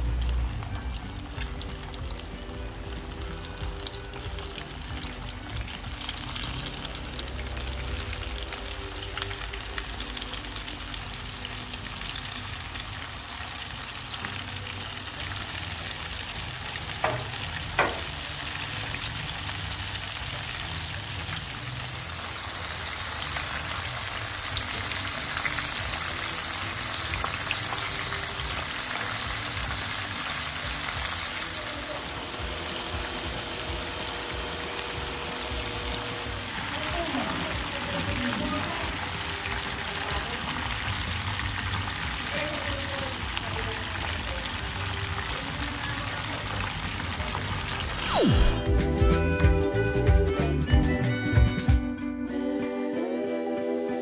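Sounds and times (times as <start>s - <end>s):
chicken sizzling in hot oil: 0.0s - 49.9s.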